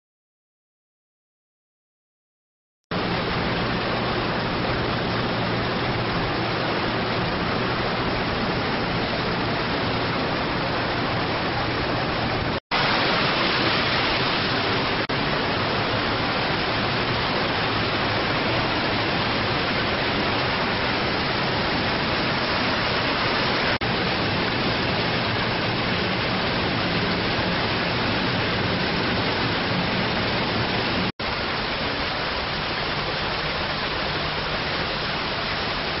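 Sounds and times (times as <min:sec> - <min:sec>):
rushing water: 0:02.9 - 0:36.0
low machine hum: 0:03.0 - 0:35.7.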